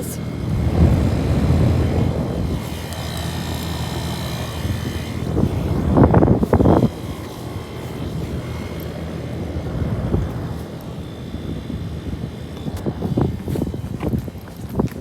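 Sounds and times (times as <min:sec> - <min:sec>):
air conditioner unit humming: 0:00.0 - 0:15.0.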